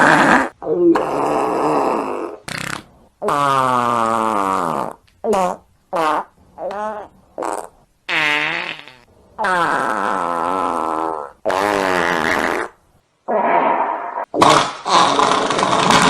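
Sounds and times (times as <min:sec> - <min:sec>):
fart sound effects: 0:00.0 - 0:16.0.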